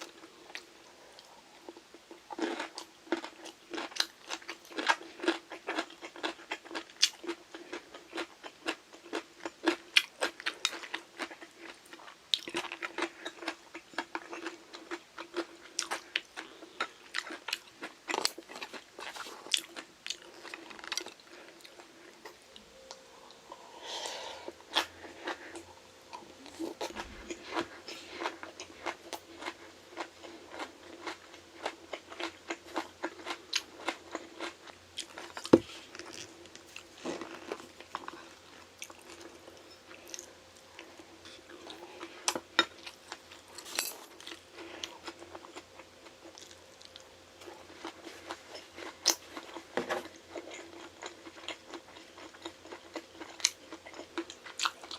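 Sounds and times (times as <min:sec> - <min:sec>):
crunchy food chewing: 0:00.0 - 0:54.9
faint steady hum: 0:00.0 - 0:54.9.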